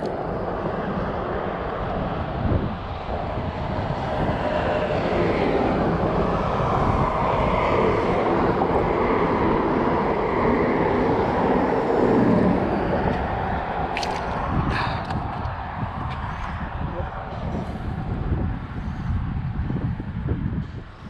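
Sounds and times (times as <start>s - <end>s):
highway traffic rushing: 0.0s - 21.0s.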